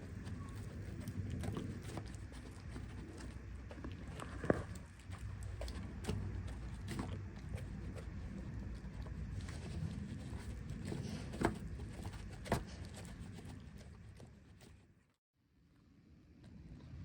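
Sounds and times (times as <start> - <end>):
cats chewing food: 0.0 - 15.2.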